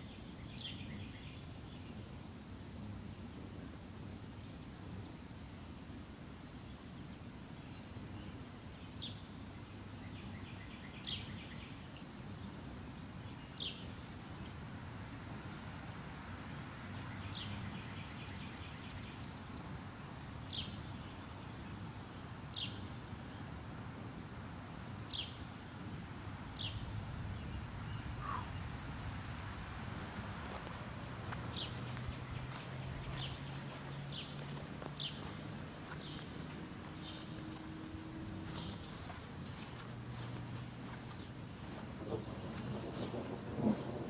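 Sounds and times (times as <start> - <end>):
songbirds chirping and trilling: 0.0 - 44.0.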